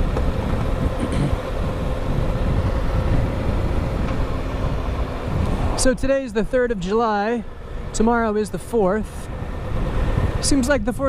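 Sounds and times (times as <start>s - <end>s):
motorcycle engine hum: 0.0s - 11.0s
wind buffeting helmet microphone: 0.0s - 11.0s.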